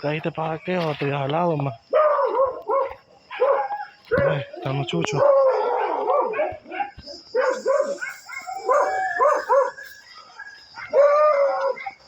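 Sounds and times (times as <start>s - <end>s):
dog's long drawn-out call: 1.9s - 12.0s
dogs barking: 1.9s - 12.0s.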